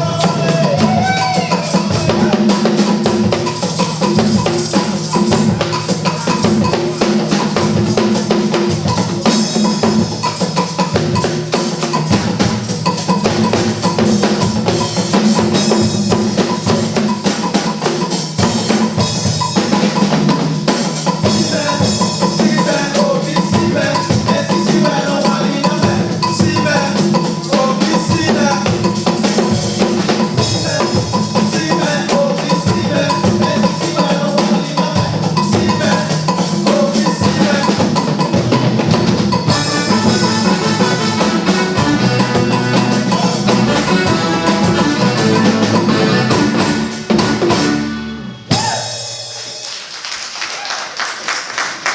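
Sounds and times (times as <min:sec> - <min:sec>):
drum kit beat: 0:00.0 - 0:50.0.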